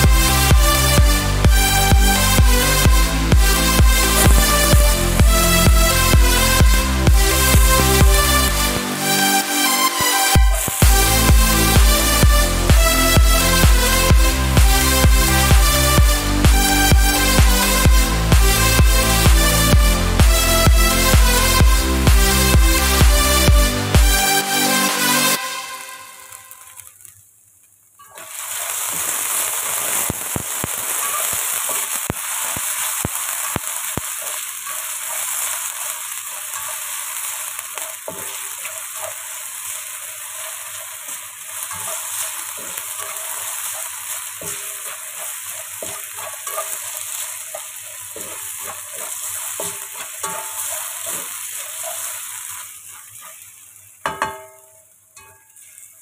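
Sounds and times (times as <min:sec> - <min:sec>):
potatoes sizzling in a pan: 0:00.1 - 0:09.2, 0:10.0 - 0:19.6, 0:24.0 - 0:56.0.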